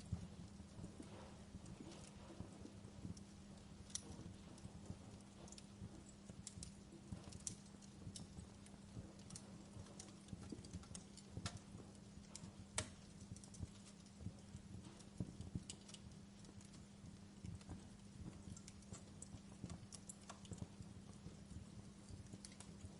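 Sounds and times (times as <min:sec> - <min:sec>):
low steady hum: 0:00.0 - 0:22.9
wood fire crackling: 0:00.0 - 0:22.9.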